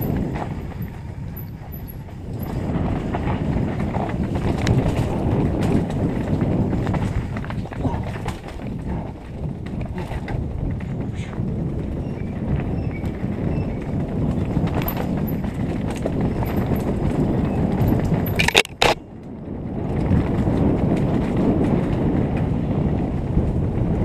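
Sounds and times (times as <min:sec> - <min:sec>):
bike tyres rumbling and rattling: 0:00.0 - 0:24.0.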